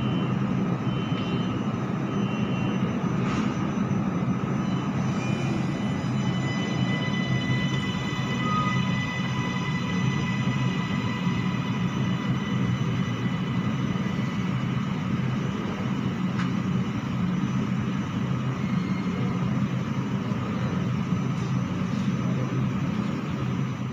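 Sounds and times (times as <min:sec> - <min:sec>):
faint high whine: 0:00.0 - 0:23.9
train interior hum and rumble: 0:00.0 - 0:23.9.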